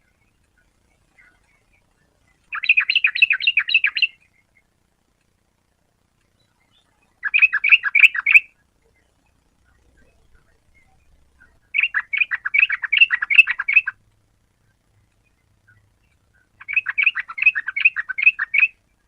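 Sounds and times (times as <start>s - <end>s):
bird chattering song: 0.0s - 4.8s, 6.2s - 14.0s, 14.7s - 19.0s.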